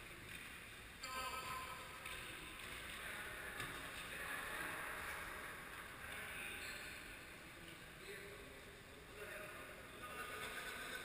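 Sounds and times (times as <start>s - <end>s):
indoor futsal game noise: 0.0s - 11.0s.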